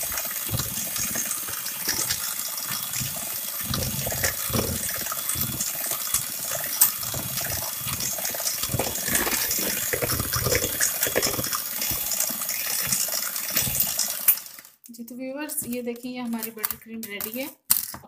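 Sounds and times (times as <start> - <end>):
beaters clicking against bowl: 0.0 - 14.6
electric hand mixer running: 0.0 - 14.7.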